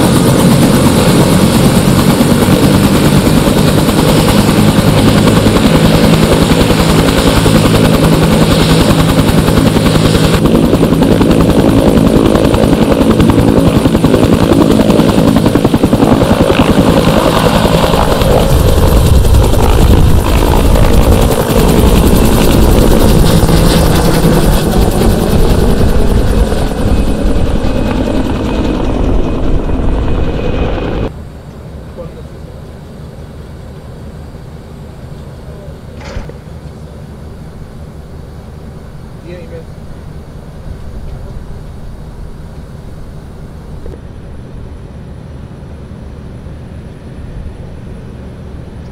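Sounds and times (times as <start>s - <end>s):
helicopter passing overhead: 0.0s - 48.8s.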